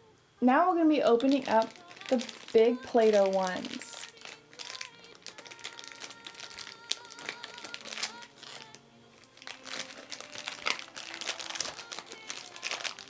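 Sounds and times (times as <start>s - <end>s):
soft background music: 0.0s - 13.0s
plastic bag crinkling: 1.0s - 13.0s.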